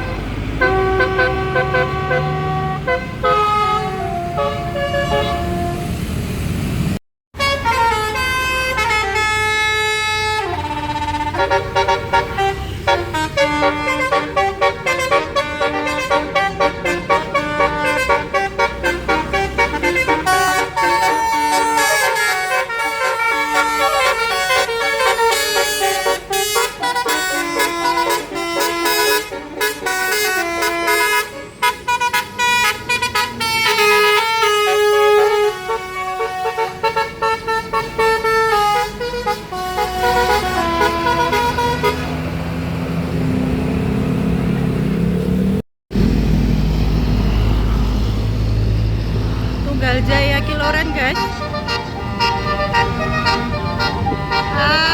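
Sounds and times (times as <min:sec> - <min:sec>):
bus multi-tone horn tune: 0:00.0 - 0:06.2, 0:07.3 - 0:43.2, 0:47.3 - 0:54.9
bus engine: 0:00.0 - 0:54.9
road noise: 0:00.0 - 0:54.9.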